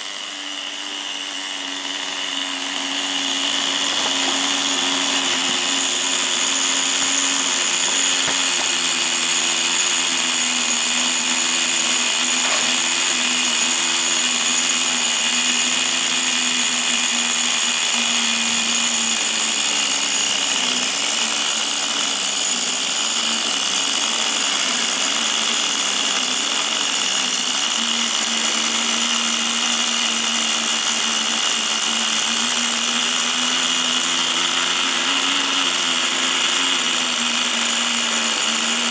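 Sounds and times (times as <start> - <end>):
small model engine revving high: 0.0 - 38.9.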